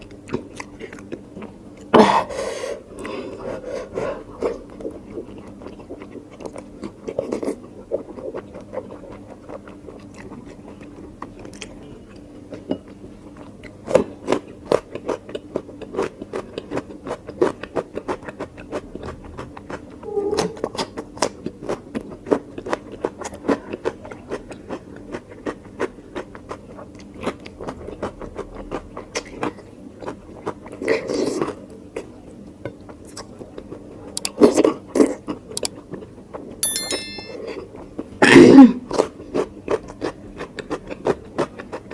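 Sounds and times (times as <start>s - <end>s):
person chewing food: 0.0s - 1.9s, 2.9s - 32.1s, 38.9s - 41.9s.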